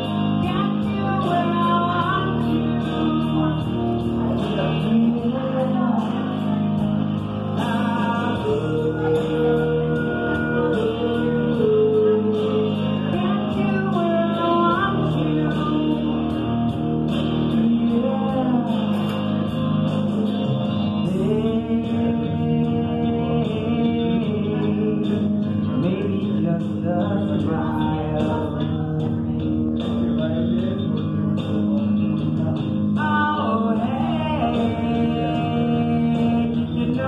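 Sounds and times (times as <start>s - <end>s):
woman singing into a microphone: 0.0s - 19.7s, 20.9s - 31.3s, 32.7s - 37.0s
guitar backing track: 0.0s - 37.0s.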